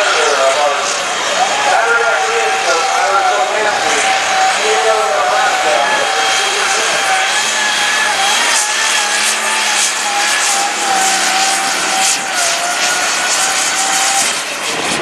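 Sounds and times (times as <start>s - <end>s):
diesel tractor engine at full load: 0.0s - 15.0s
steady turbo whine: 0.0s - 15.0s.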